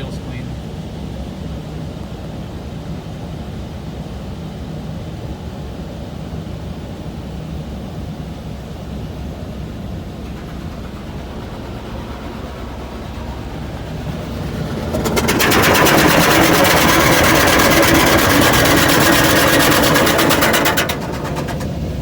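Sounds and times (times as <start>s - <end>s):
car wash machinery humming: 0.0s - 22.0s.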